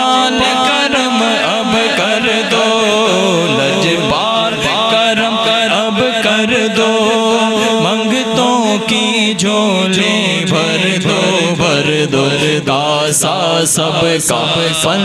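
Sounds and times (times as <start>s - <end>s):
person singing a devotional song: 0.0s - 15.0s.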